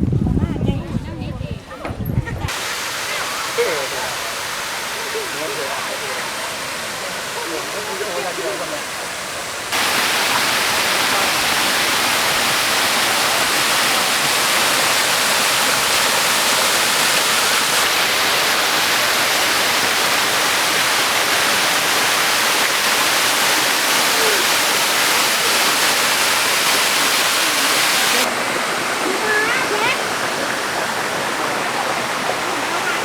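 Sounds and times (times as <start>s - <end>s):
waterfall pouring: 2.5s - 33.0s.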